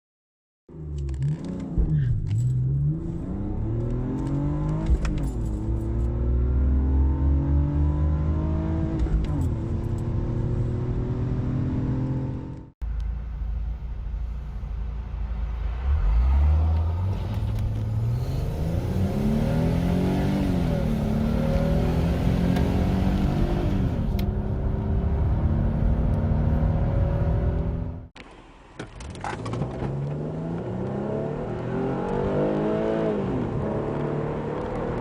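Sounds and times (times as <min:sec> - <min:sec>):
car engine idling and accelerating: 0:00.7 - 0:35.0.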